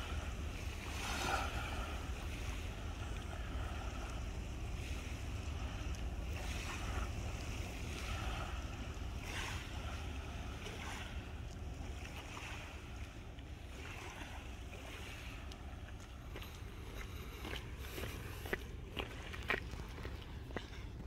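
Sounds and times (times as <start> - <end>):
waves washing onto shore: 0.0 - 21.0.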